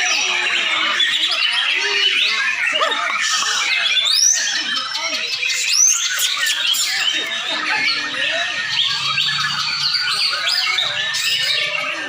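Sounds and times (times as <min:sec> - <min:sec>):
birds singing and squawking: 0:00.0 - 0:12.0.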